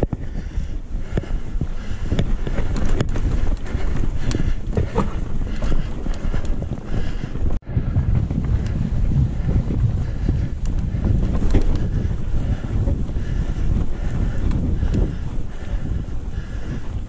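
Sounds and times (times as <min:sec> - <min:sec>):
bike knocking and rattling: 0:00.0 - 0:17.0
wind buffeting microphone: 0:00.0 - 0:17.0.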